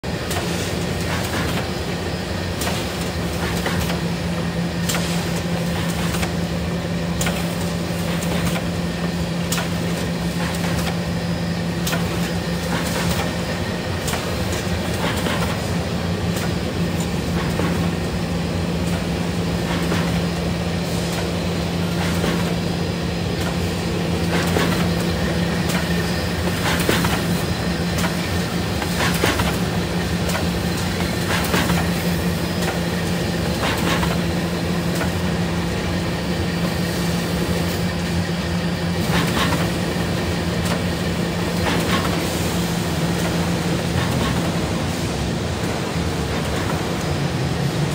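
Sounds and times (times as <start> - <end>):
machine motor and belt drone: 0.0 - 47.9.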